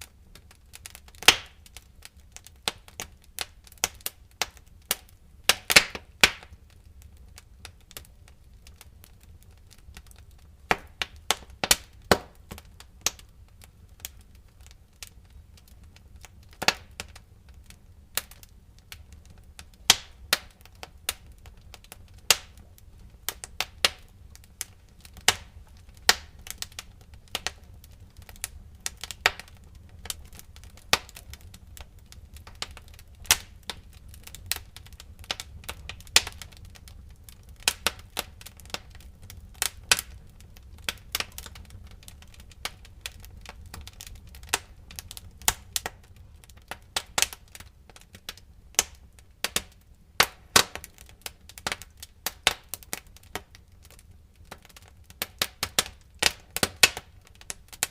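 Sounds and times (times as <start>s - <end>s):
firewood popping and snapping: 0.0s - 57.9s
flames low rumble: 0.0s - 57.9s.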